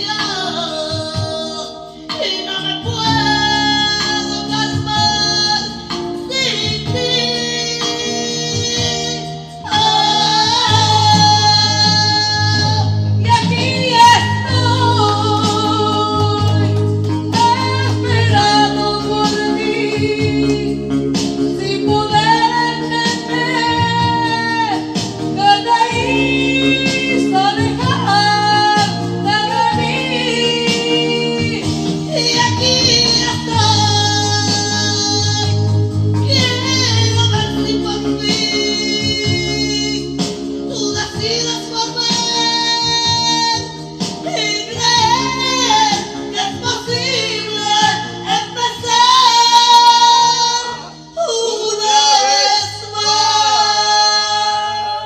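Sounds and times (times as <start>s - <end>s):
backing track with guitar: 0.0s - 55.0s
woman singing karaoke: 0.0s - 55.0s.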